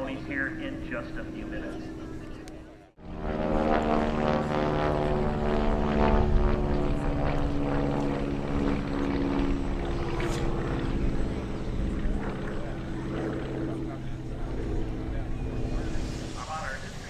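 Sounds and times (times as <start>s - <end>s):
propeller airplane engines droning: 0.0s - 17.0s.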